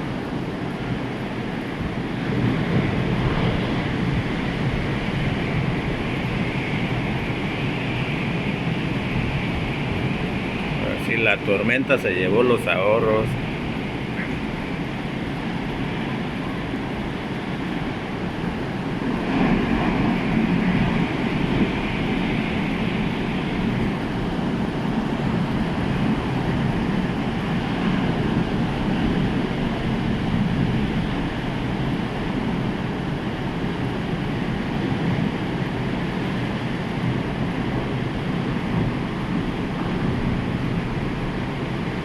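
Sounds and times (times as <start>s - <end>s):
rough surf rumbling: 0.0s - 42.0s
wind buffeting microphone: 0.0s - 42.0s.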